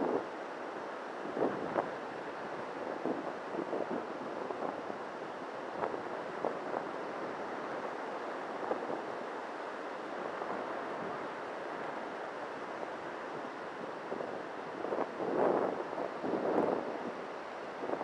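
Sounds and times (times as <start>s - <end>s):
wind on microphone: 1.2s - 9.3s, 10.1s - 18.0s.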